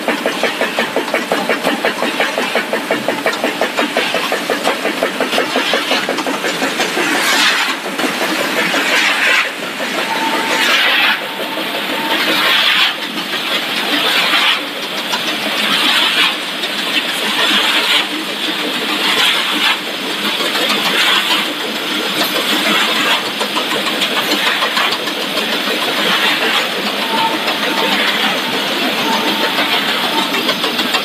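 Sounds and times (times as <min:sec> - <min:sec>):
machinery hissing and whirring: 0:00.0 - 0:31.0.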